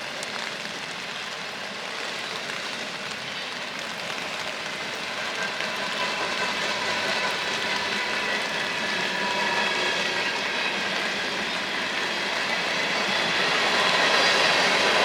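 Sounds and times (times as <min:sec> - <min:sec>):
train approaching on rails: 0:00.0 - 0:15.0.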